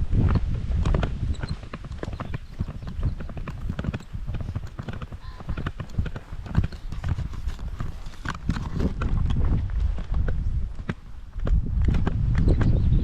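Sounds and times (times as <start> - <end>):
footsteps on a path: 0.9 - 12.6.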